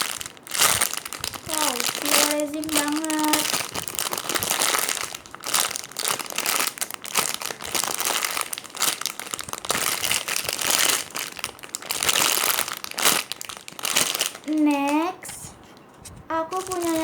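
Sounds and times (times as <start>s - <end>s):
crinkly rustling: 0.0s - 17.0s.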